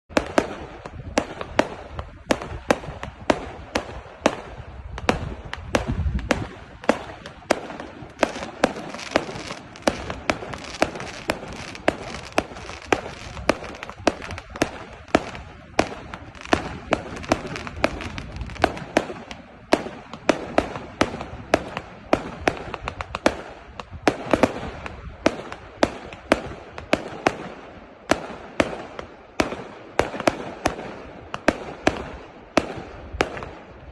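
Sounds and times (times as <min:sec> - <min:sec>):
fireworks bangs: 0:00.1 - 0:33.9.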